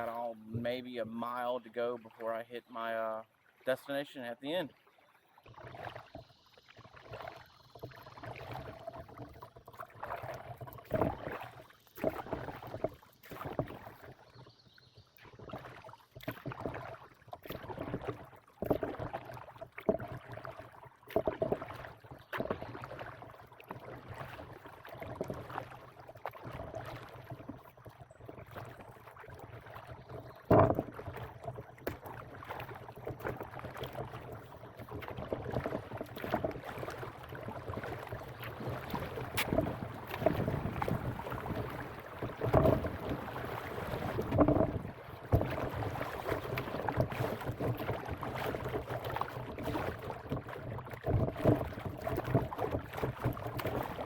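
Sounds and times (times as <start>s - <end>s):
paddle strokes in water: 0.0s - 54.0s
water splashing and dripping: 0.0s - 54.0s.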